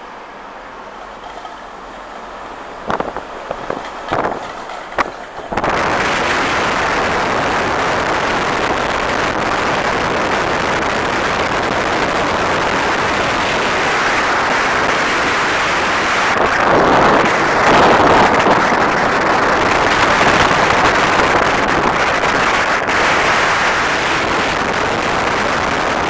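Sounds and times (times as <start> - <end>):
wind and travel noise in vehicle: 0.0 - 26.0.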